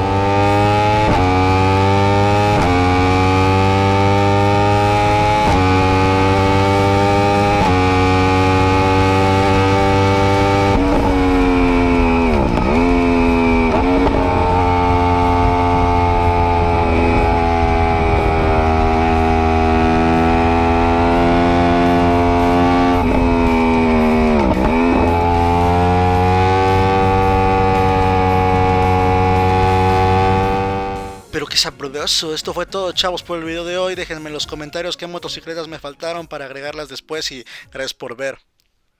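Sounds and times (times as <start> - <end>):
motorcycle engine revving high: 0.0 - 31.3.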